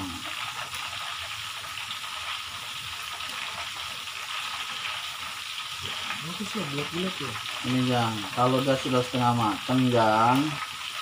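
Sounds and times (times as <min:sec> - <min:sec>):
hot oil sizzling in a wok: 0:00.0 - 0:11.0.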